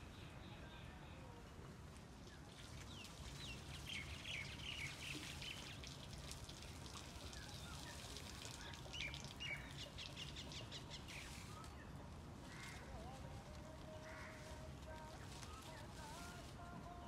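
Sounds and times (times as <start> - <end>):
birds chirping: 2.2 - 17.0.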